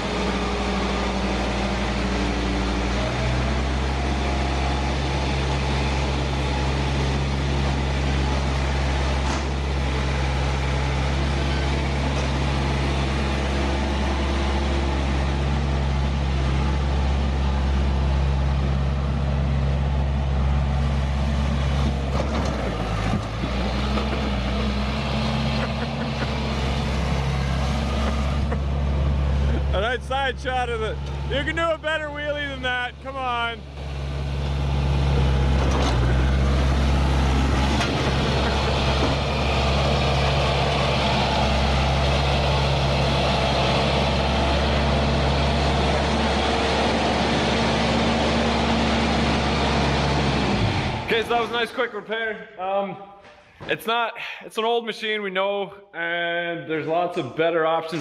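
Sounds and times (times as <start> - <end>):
diesel engine running: 0.0 - 51.8.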